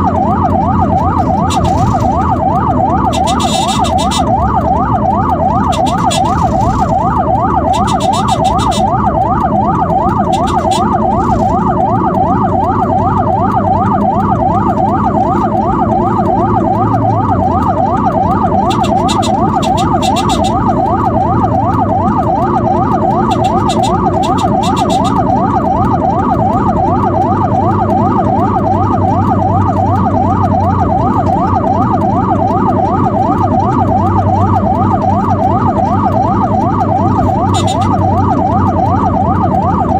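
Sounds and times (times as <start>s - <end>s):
emergency siren yelping: 0.0s - 39.9s
road and engine rumble: 0.0s - 39.9s.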